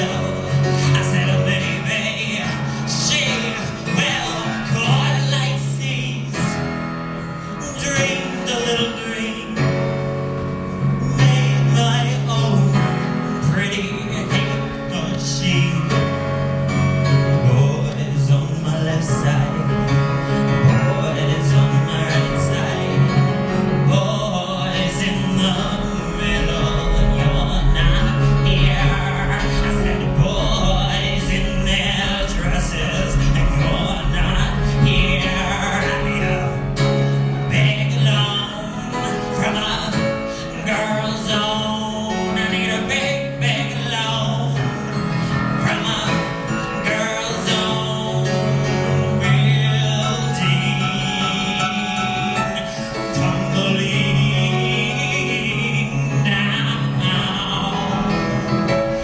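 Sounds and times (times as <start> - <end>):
instrumental accompaniment: 0.0 - 59.0.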